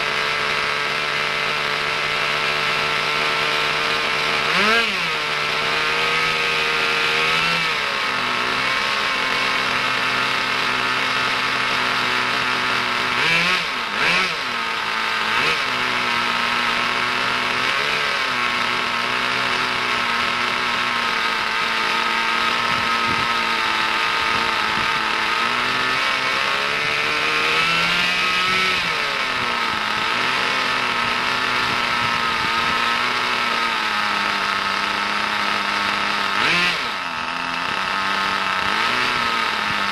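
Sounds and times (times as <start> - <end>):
nitro engine revving: 0.0 - 39.9.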